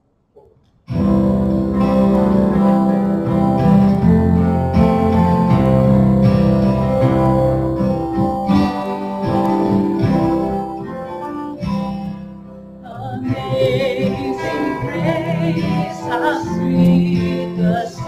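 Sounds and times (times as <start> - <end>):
acoustic guitar strumming: 0.9 - 18.0
person singing: 1.0 - 11.4, 12.8 - 18.0.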